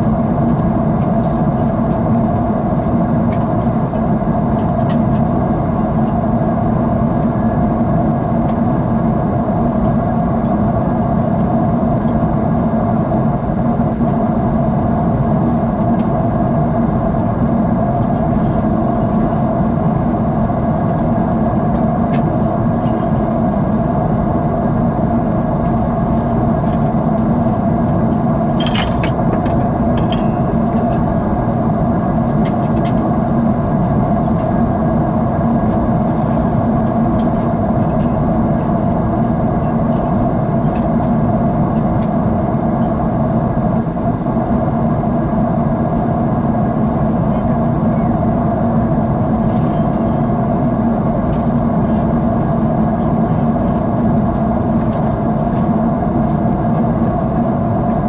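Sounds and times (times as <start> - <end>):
jet cabin engine drone: 0.0 - 58.0.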